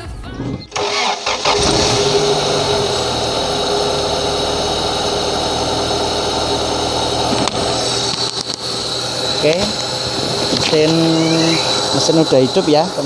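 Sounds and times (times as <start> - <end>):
car engine idling: 0.7 - 13.0.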